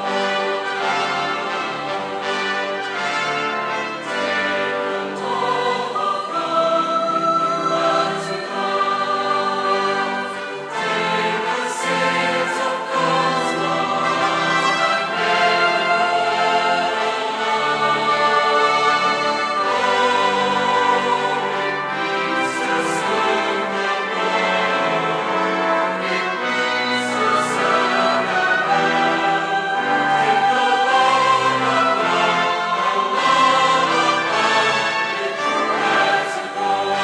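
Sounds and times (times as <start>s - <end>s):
choir singing: 0.0s - 37.0s
instrumental accompaniment: 0.0s - 37.0s.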